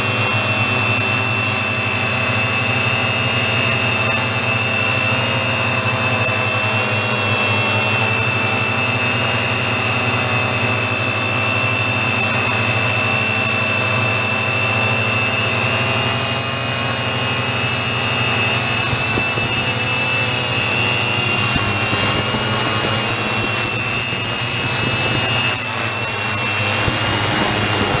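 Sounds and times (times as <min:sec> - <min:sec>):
drone propellers whining: 0:00.0 - 0:28.0.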